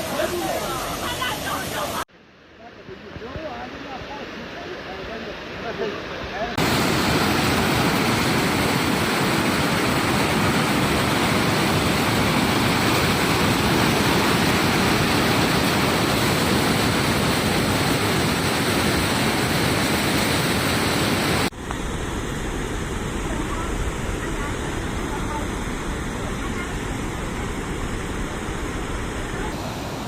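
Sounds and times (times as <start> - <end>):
water rushing: 0.0 - 2.1, 3.4 - 30.0.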